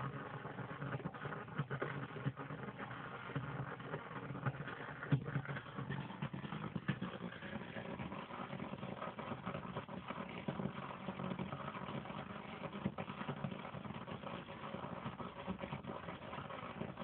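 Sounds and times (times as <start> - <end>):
small crackles: 0.0 - 17.0.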